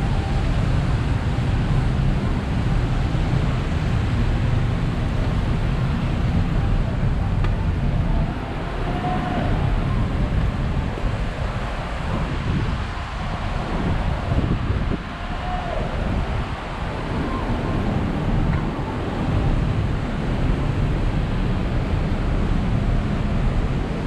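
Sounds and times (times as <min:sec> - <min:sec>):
traffic on wet roads: 0:00.0 - 0:24.0
wind rumble on microphone: 0:00.0 - 0:24.0.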